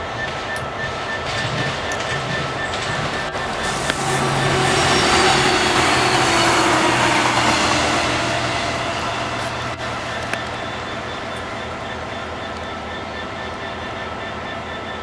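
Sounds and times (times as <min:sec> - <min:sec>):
wheel-on-rail noise: 0:00.0 - 0:15.0
diesel engine drone: 0:01.0 - 0:14.7.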